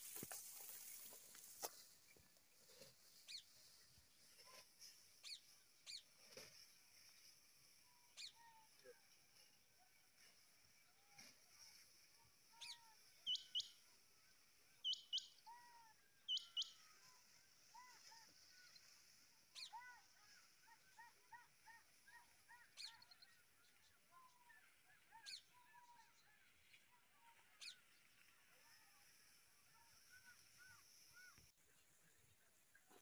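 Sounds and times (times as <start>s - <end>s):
soft repeated bird calls: 0.0s - 33.0s.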